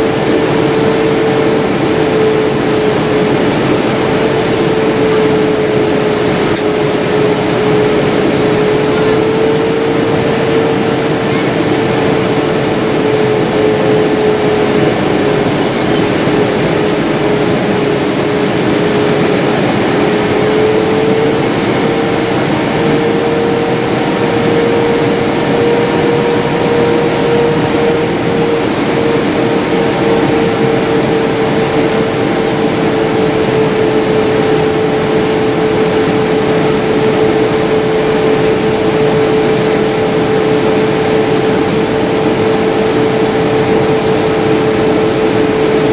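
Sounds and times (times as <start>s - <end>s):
jet engine and airflow rush: 0.0s - 45.9s
steady cabin hum: 0.0s - 45.9s.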